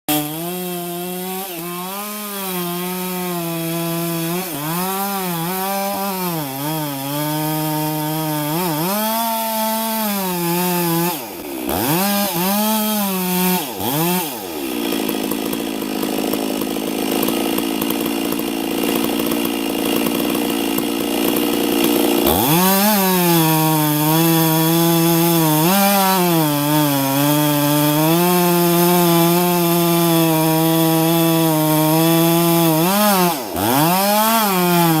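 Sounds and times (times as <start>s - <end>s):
chainsaw revving while cutting: 0.1s - 35.0s.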